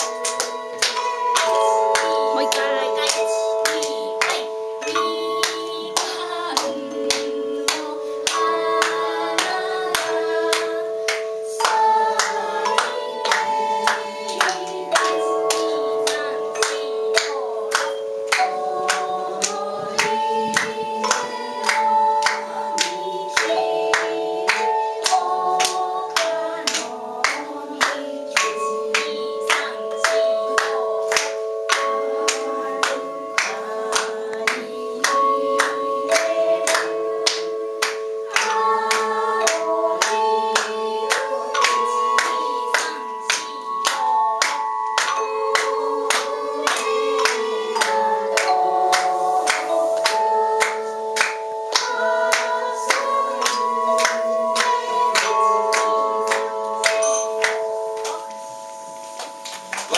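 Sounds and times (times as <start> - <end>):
tone chimes melody: 0.0 - 27.7, 29.8 - 59.9
hand claps: 0.0 - 59.9
people singing: 0.0 - 59.9.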